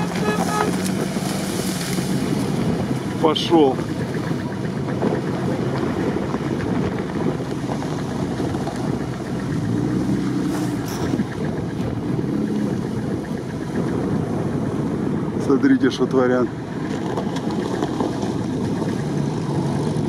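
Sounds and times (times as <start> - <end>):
off-road vehicle engine running: 0.0 - 20.0
wind buffeting microphone: 0.0 - 20.0.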